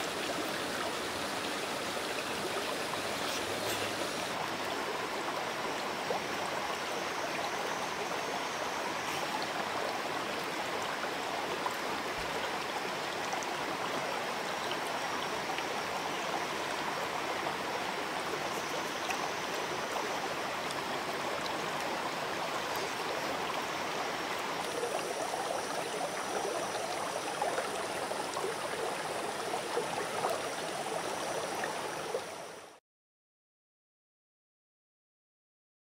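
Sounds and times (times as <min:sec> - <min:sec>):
stream flowing over stones: 0:00.0 - 0:32.8.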